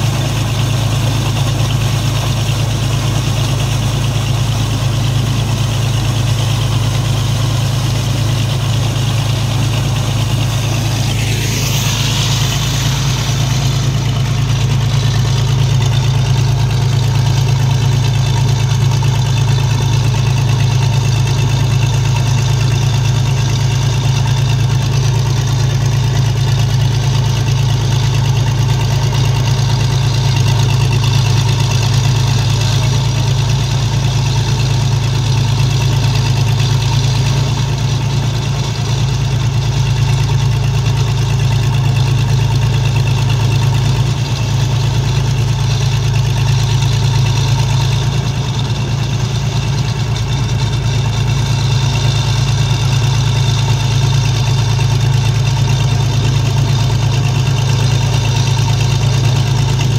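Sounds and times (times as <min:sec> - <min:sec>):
dredge boat engine running: 0:00.0 - 0:59.9
excavator engine running: 0:00.0 - 0:59.9.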